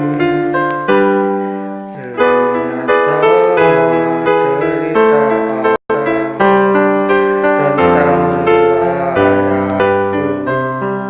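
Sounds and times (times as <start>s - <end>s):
piano ballad: 0.0s - 11.0s
person singing: 1.9s - 11.0s.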